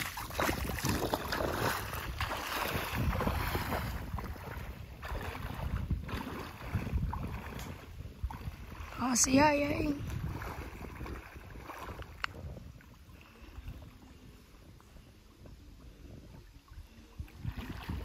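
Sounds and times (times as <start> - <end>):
feet splashing through water: 0.0 - 14.3, 17.1 - 18.0.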